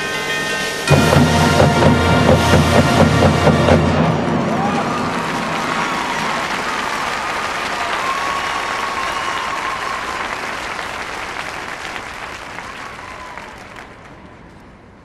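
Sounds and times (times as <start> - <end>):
crowd applauding: 0.9 - 14.6.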